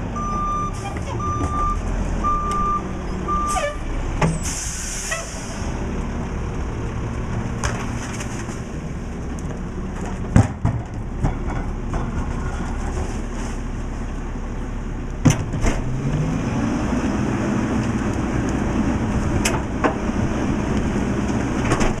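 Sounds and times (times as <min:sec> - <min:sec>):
garbage truck diesel engine: 0:00.0 - 0:22.0.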